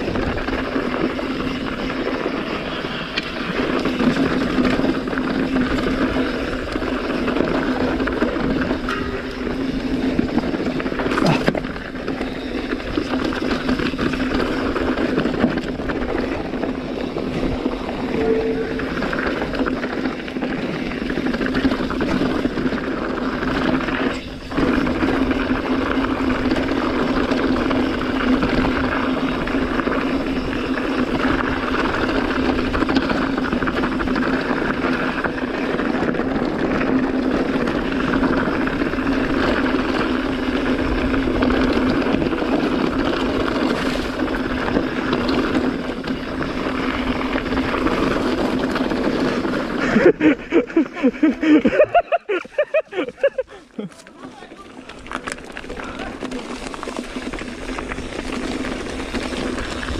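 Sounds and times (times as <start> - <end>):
bike tyres crunching gravel: 0.0 - 59.9.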